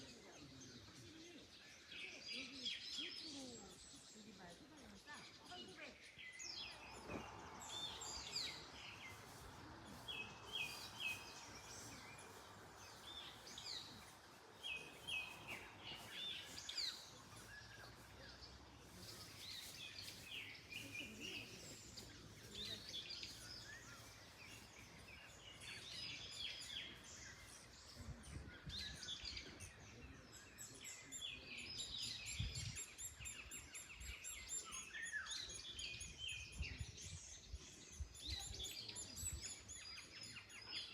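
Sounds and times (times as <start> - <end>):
birds chirping and trilling: 0.0 - 40.9
wind rustling in trees: 0.0 - 40.9.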